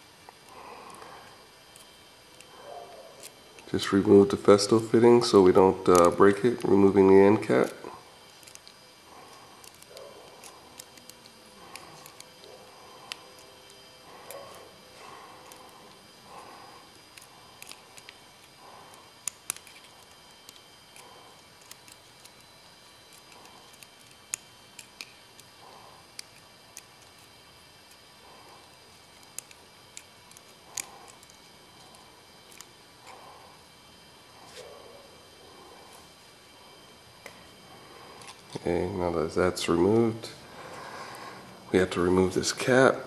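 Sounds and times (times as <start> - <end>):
torch flame hissing: 0.0 - 43.0.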